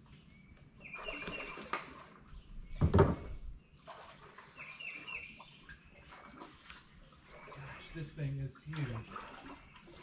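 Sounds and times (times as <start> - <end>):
bird chirping: 0.0 - 8.6
paddle water swishing: 0.8 - 2.5, 3.3 - 10.0.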